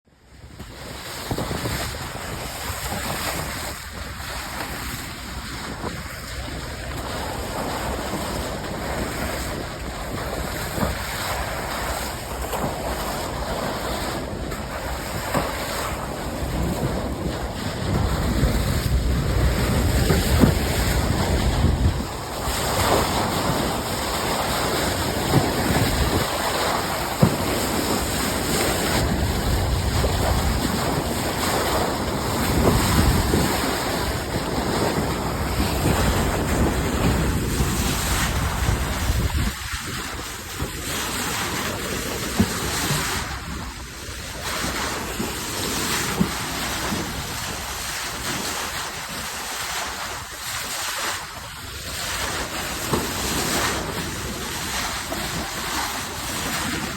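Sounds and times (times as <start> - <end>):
sea water rushing past ship: 0.1 - 56.9
wind buffeting microphone: 0.2 - 56.9.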